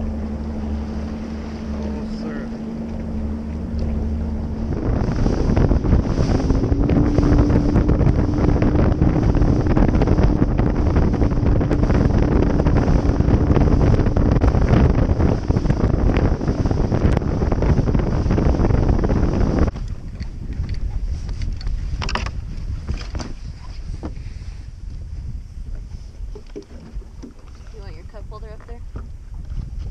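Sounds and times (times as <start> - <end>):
boat hull hitting choppy water: 0.0 - 24.4, 25.0 - 29.9
outboard engine hum: 0.0 - 29.9
wind noise on microphone: 0.0 - 29.9.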